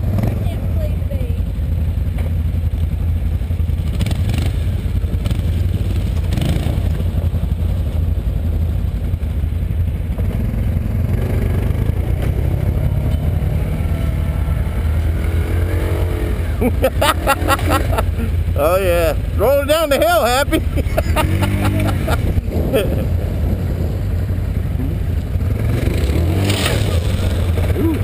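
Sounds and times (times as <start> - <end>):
atv engine idling: 0.0 - 25.8
distant atv engines revving: 0.0 - 28.0.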